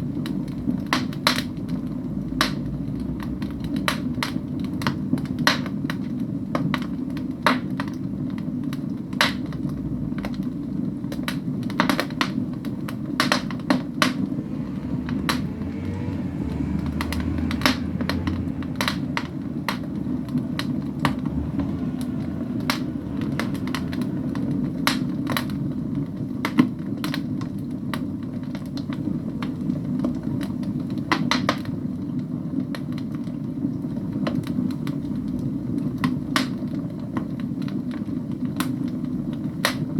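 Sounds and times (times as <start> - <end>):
flames rushing: 0.0 - 39.9
logs crackling and popping: 0.0 - 39.9.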